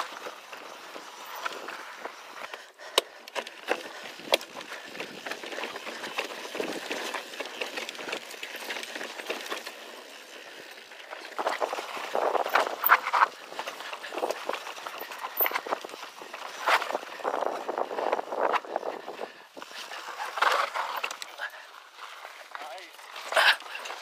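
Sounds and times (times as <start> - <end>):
bike tyres on dirt trail: 0.0 - 24.0.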